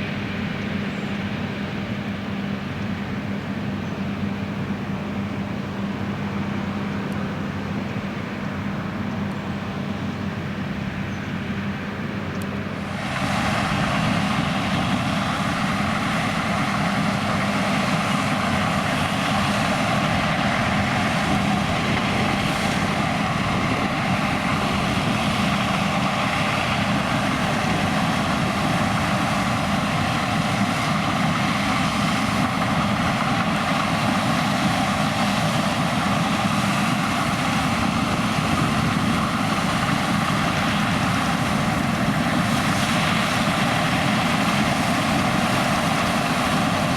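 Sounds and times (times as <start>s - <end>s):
combine harvester engine droning: 0.0s - 46.9s.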